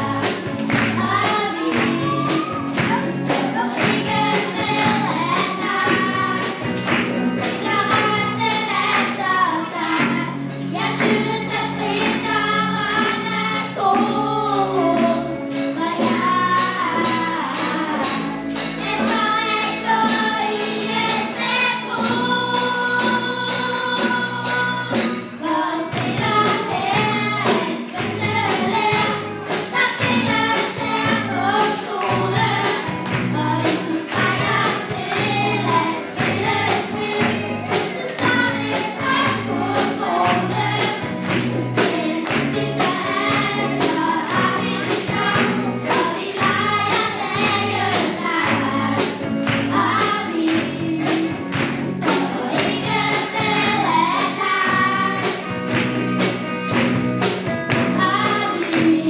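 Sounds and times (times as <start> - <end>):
children singing together: 0.0 - 59.0
light percussion beat: 0.0 - 59.0
live band playing: 0.0 - 59.0.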